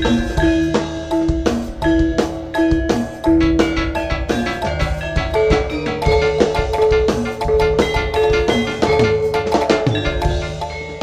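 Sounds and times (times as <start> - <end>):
drum strokes: 0.0 - 11.0
metal percussion ringing: 0.0 - 11.0.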